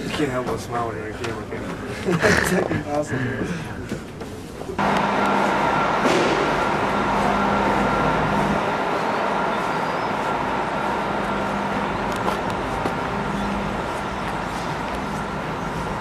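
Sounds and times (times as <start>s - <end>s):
constant hum: 0.0s - 16.0s.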